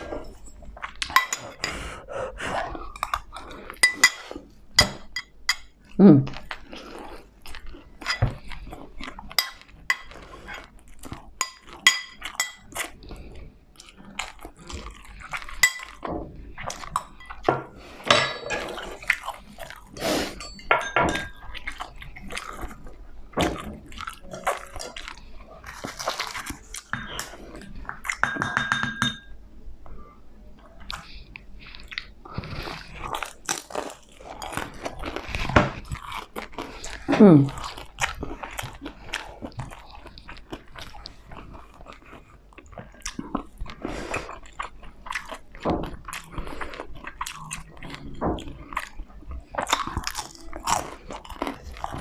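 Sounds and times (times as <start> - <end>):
chewing crispy food: 5.6 - 20.4, 21.2 - 28.2, 30.6 - 52.0.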